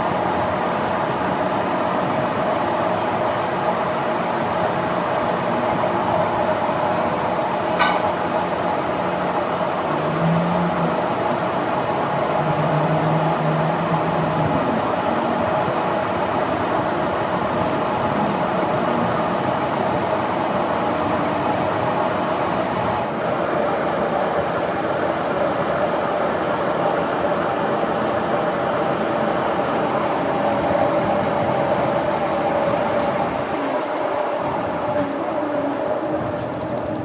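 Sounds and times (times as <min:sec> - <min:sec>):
metal lathe running: 0:00.0 - 0:37.0.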